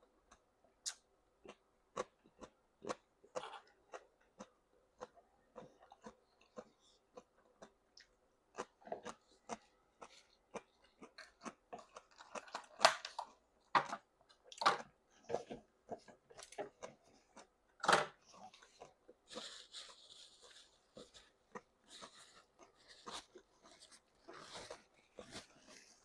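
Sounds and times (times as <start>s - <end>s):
wet mouth chewing noodles: 0.0s - 26.0s.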